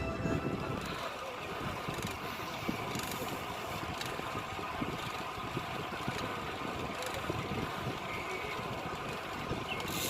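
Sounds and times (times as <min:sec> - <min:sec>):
road and traffic noise: 0:00.0 - 0:10.0.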